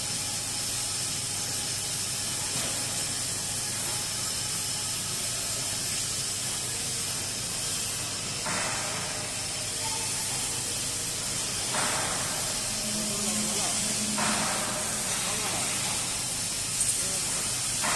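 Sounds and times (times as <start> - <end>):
high workshop hiss: 0.0 - 17.9.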